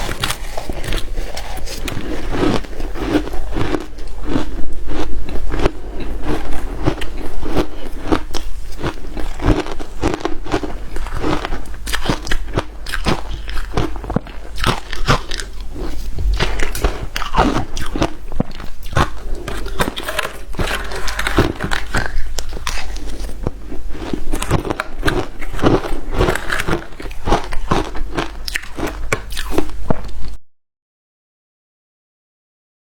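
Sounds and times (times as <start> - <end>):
crunching shaved ice: 0.0 - 29.7.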